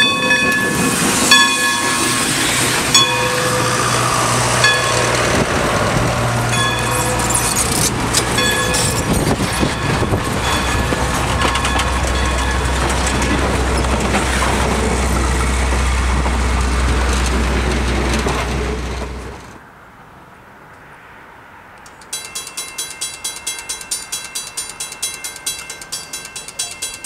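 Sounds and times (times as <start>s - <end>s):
train wheels rumbling and clicking: 0.0s - 19.6s, 21.8s - 27.0s.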